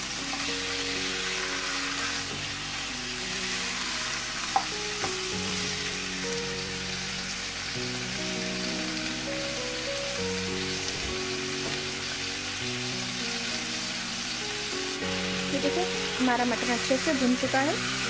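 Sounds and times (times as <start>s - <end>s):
meat and onions sizzling in oil: 0.0s - 18.0s
soft background music: 0.0s - 18.0s.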